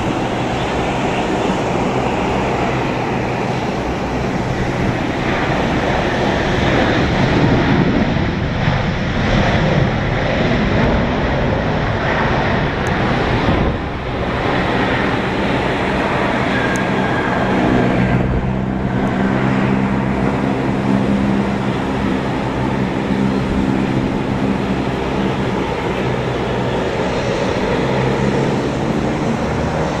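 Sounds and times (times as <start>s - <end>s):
broad jet engine noise: 0.0s - 30.0s.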